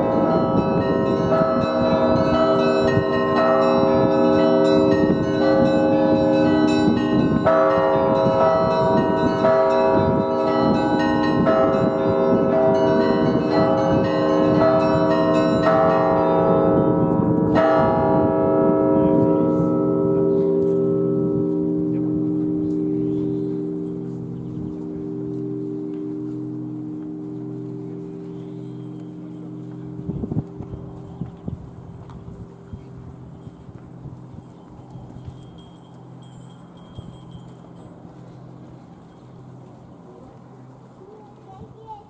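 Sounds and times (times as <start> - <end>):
church bells ringing: 0.0 - 42.0.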